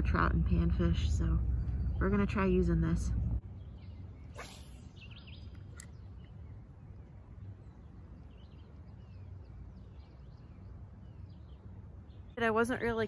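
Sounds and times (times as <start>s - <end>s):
low outdoor rumble: 0.0s - 13.0s
small birds chirping faintly: 0.0s - 13.0s.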